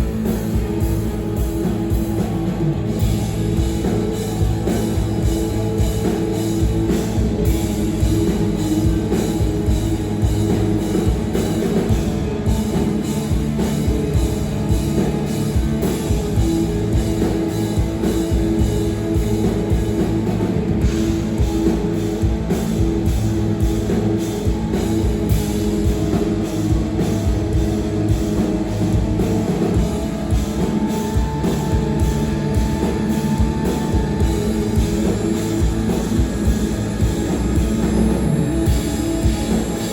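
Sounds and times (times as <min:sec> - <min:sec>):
drum kit: 0:00.0 - 0:39.9
electric guitar: 0:00.0 - 0:39.9
live rock band playing: 0:00.0 - 0:39.9.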